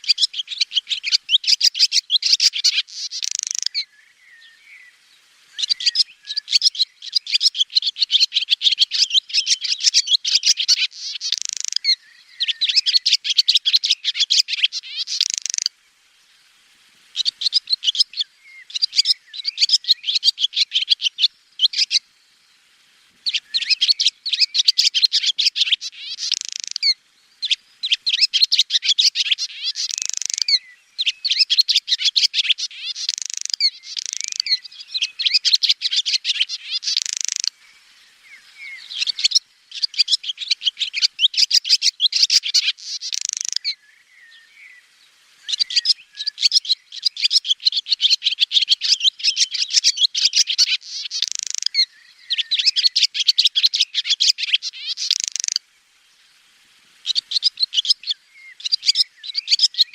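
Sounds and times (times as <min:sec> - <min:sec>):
swallow twittering: 0:00.0 - 0:04.9, 0:05.5 - 0:15.7, 0:17.2 - 0:22.0, 0:23.2 - 0:44.8, 0:45.4 - 0:55.6, 0:57.0 - 0:59.9.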